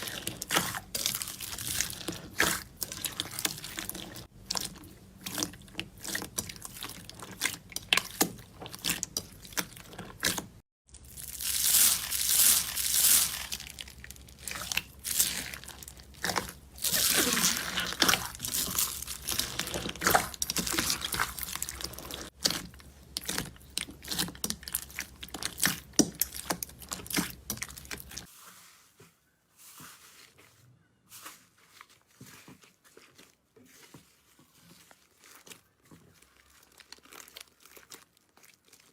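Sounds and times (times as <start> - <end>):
slime squishing and crackling: 0.0 - 28.4, 31.1 - 38.9.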